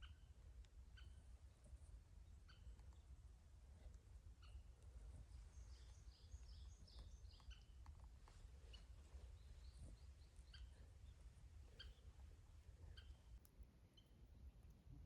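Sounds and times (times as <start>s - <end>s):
faint bird chirps: 0.0s - 14.8s.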